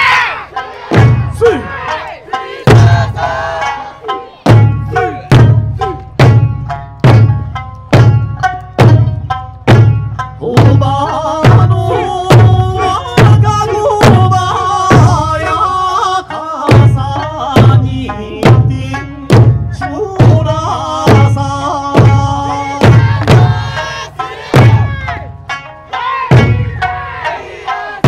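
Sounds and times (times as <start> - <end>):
folk song melody with voice: 0.0 - 28.0
large barrel drums beating: 0.0 - 28.0.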